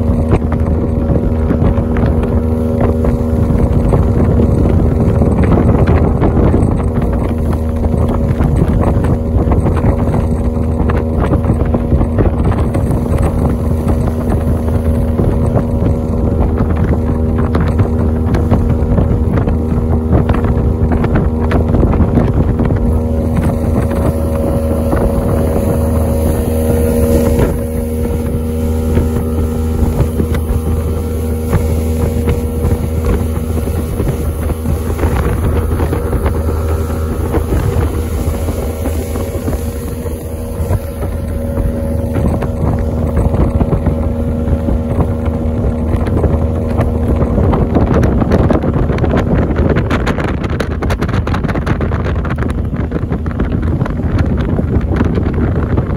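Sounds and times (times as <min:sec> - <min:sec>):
hull knocking over waves: 0:00.0 - 0:55.9
outboard motor running: 0:00.0 - 0:55.9
rushing water: 0:00.0 - 0:55.9
wind buffeting microphone: 0:00.0 - 0:55.9.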